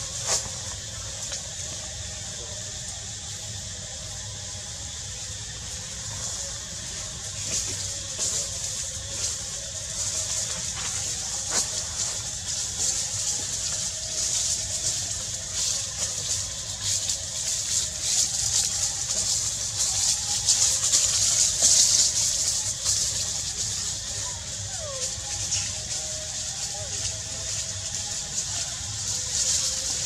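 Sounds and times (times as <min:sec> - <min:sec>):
high-pitched fluttering hiss: 0:00.0 - 0:30.0.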